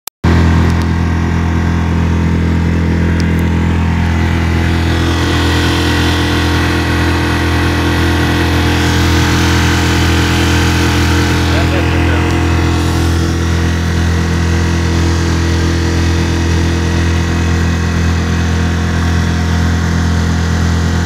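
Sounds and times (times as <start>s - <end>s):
outboard motor running: 0.2s - 21.0s
water rushing from wake: 0.3s - 21.0s.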